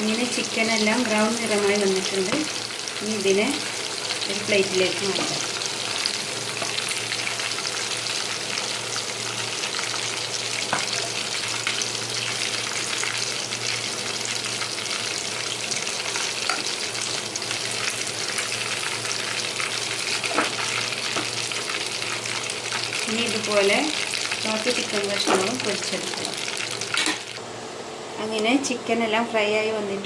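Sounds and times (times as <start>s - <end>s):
chicken deep-frying in oil: 0.0s - 27.4s.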